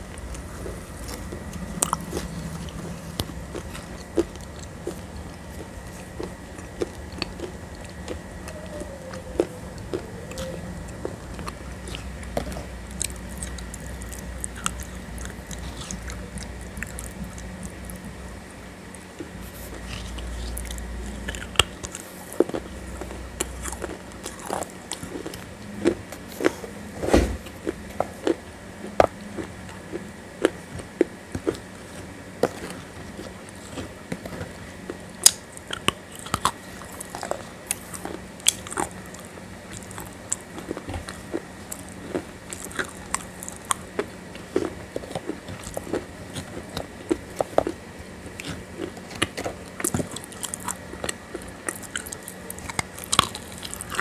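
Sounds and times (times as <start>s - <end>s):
crunchy biting and chewing: 0.0s - 54.0s.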